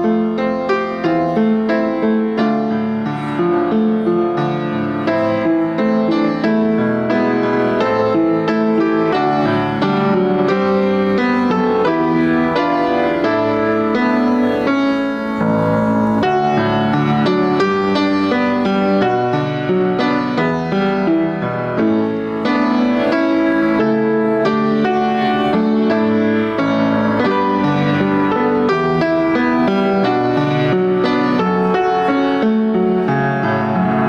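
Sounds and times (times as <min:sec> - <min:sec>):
piano music: 0:00.0 - 0:34.0.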